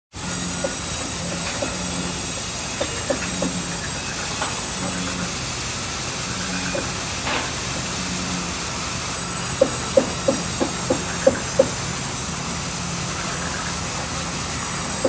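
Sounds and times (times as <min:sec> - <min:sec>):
sawmill machinery hiss and hum: 0:00.1 - 0:15.0.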